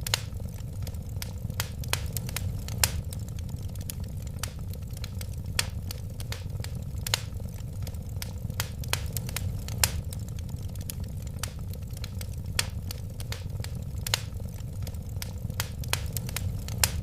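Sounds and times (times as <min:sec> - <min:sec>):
low rumble of flames: 0:00.0 - 0:17.0
wood fire snapping and popping: 0:00.0 - 0:17.0.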